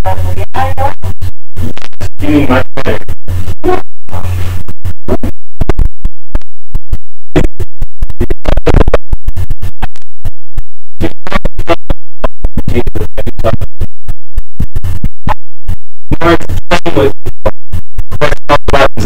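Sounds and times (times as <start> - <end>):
glitching overdriven audio: 0.0 - 19.0.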